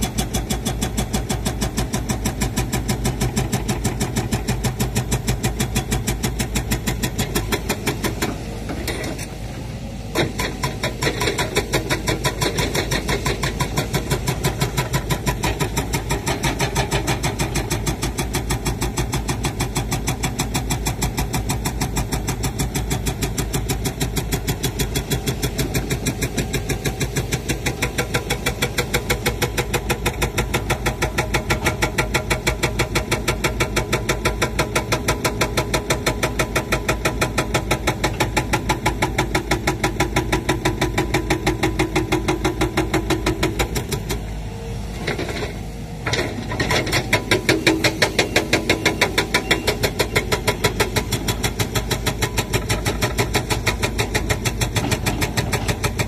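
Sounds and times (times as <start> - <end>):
excavator diesel engine throbbing: 0.0 - 56.0.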